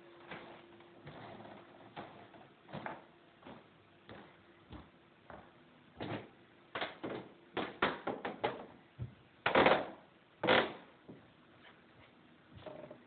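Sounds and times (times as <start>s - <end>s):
floor squeaking and creaking: 0.2s - 9.7s, 10.5s - 13.0s.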